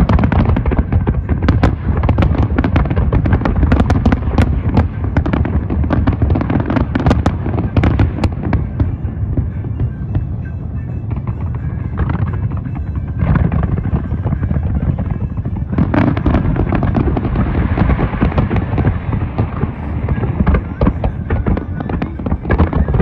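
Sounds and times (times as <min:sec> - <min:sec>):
firework shells booming: 0:00.0 - 0:23.0
fireworks crackling: 0:00.0 - 0:23.0.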